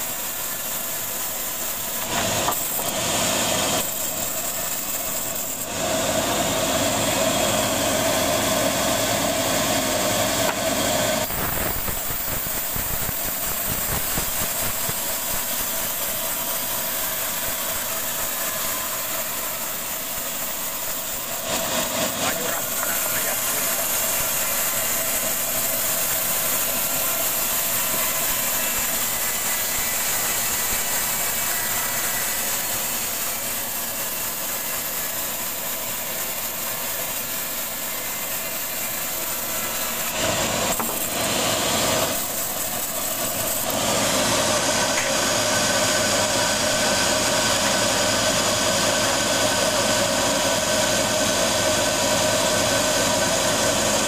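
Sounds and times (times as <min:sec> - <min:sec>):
band sawmill sawing wood: 0:00.0 - 0:54.0.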